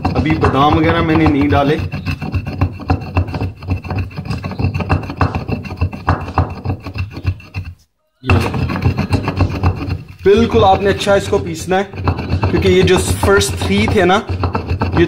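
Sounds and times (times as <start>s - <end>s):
pestle pounding in a mortar: 0.0s - 15.0s.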